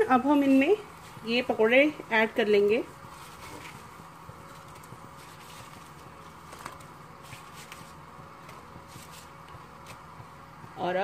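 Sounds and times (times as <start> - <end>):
curry bubbling in a pot: 0.3 - 10.7.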